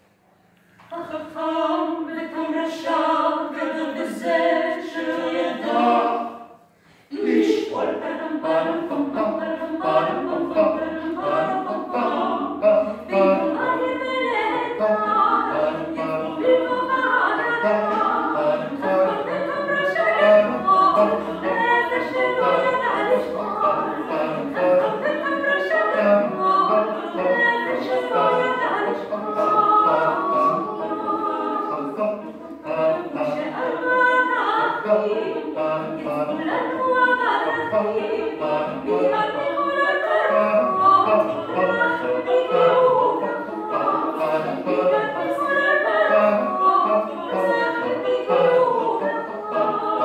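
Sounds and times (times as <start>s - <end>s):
vocal quartet singing a cappella: 0.4s - 50.0s.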